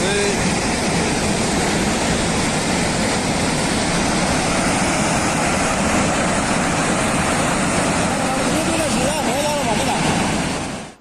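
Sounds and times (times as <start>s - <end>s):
rushing floodwater roar: 0.0s - 11.0s.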